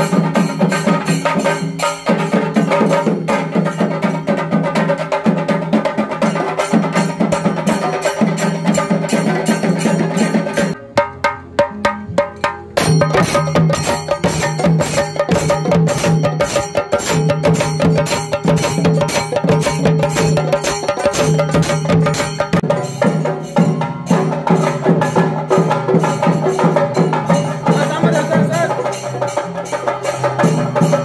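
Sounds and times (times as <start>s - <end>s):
rhythmic percussion music: 0.0s - 31.0s.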